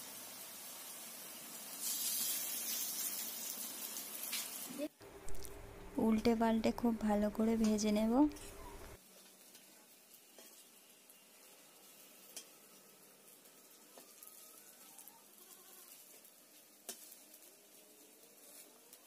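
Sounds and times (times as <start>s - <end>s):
fritters sizzling in hot oil: 0.0s - 5.5s, 7.4s - 19.0s.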